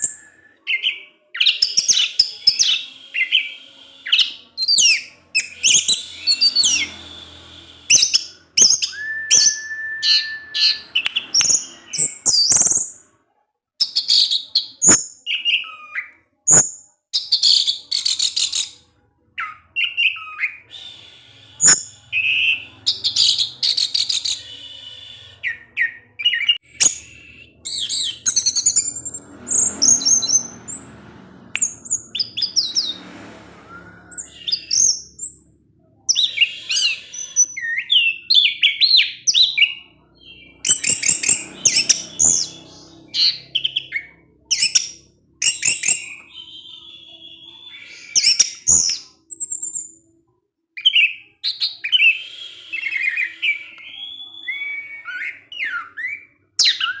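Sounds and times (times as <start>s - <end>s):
thrush singing whistled song: 0.0s - 13.2s, 13.8s - 50.1s, 50.8s - 57.0s.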